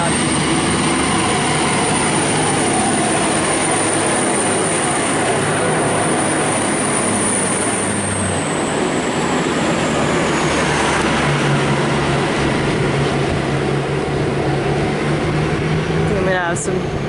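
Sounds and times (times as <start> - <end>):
diesel train engines running: 0.0 - 17.0.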